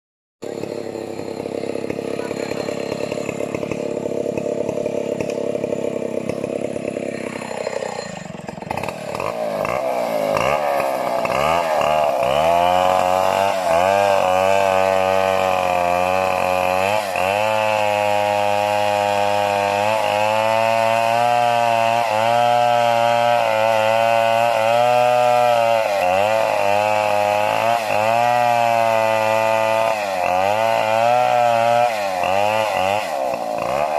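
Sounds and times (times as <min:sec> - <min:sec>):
chainsaw engine revving: 0:00.4 - 0:33.9.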